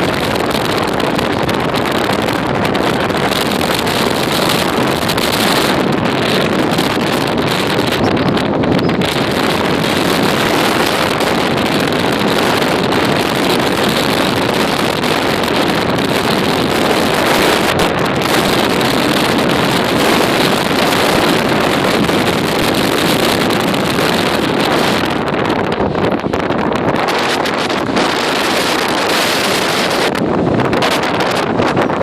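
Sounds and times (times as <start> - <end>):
hurricane wind on microphone: 0.0 - 32.0.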